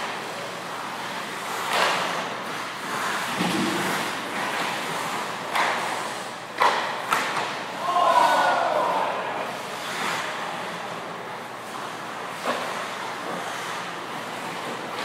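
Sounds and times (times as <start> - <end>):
skates scraping on ice: 0.0 - 15.0.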